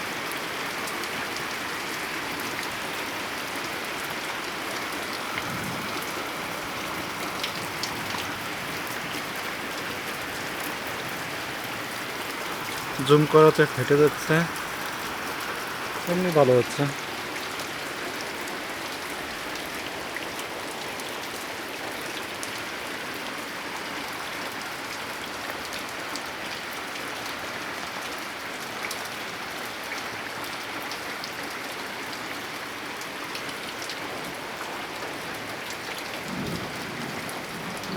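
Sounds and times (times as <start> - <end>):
heavy rain on a tin roof: 0.0 - 37.9.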